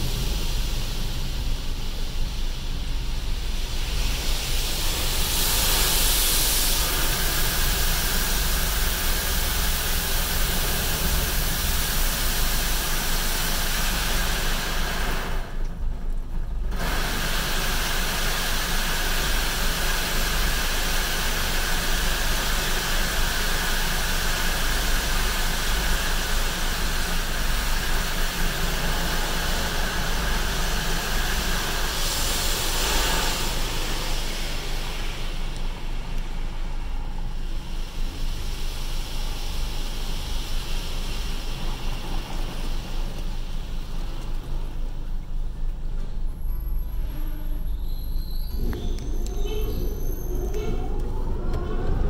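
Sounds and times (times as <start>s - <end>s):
water spray hissing on car: 0.0s - 15.6s, 16.7s - 45.5s
low machine rumble: 0.0s - 52.0s.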